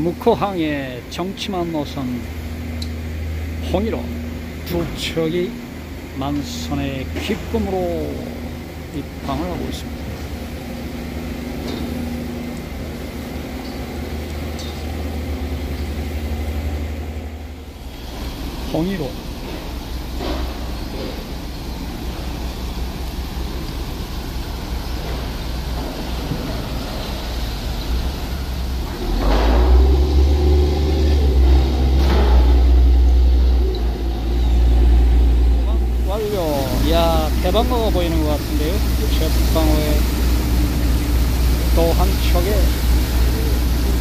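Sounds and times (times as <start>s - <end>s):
boat diesel engine drone: 0.0s - 44.0s.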